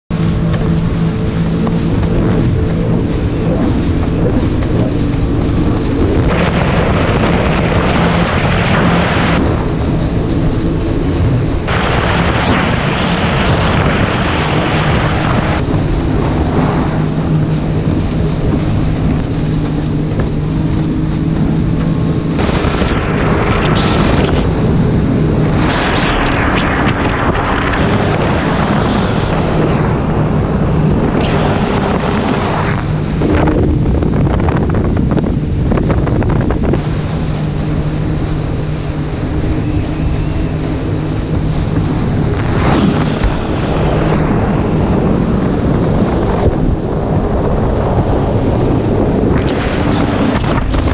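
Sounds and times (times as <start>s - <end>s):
watercraft engine drone: 0.0s - 50.9s
rushing water: 0.1s - 50.9s
wind buffeting microphone: 0.1s - 50.9s.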